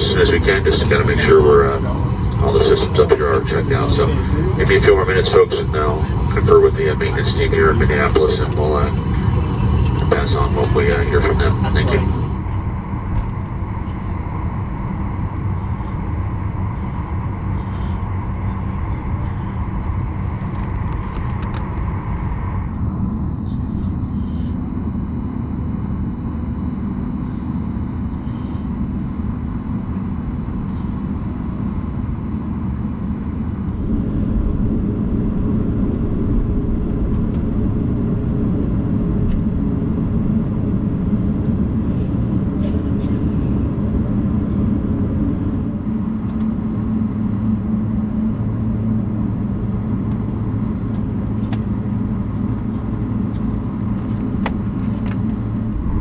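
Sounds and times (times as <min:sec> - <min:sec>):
airliner cabin rumble and hum: 0:00.0 - 0:56.0.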